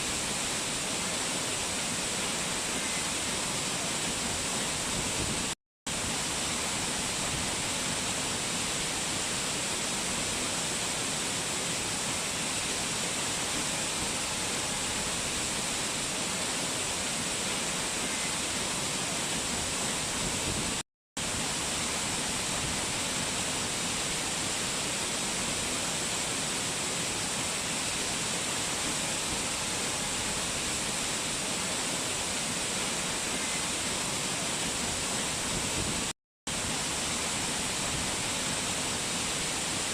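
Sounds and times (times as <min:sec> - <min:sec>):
mountain water rushing: 0:00.0 - 0:39.9.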